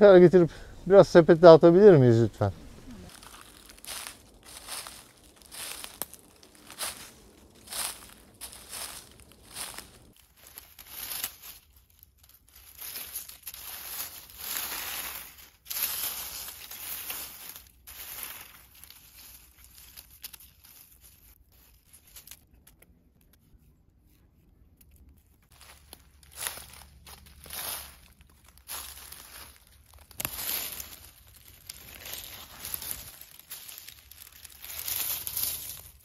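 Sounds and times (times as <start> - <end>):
dry leaves and twigs rustling: 1.4 - 36.0.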